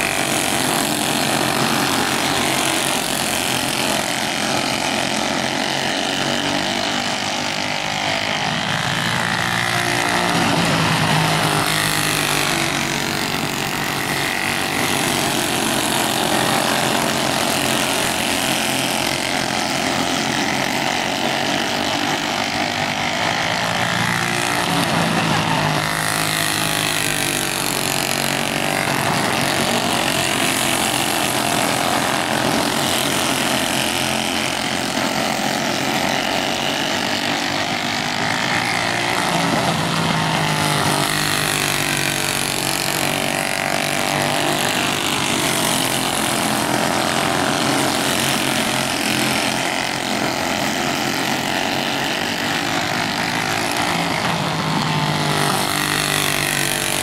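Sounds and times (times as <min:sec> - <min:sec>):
kart engine at full throttle: 0:00.0 - 0:57.0.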